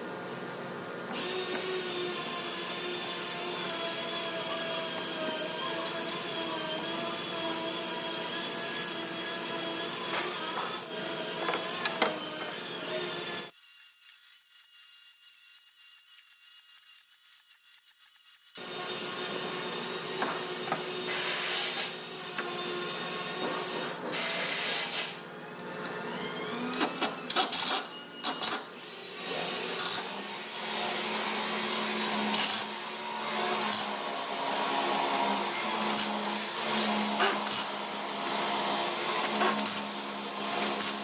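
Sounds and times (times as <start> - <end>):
power tool motor whirring: 1.1 - 41.0.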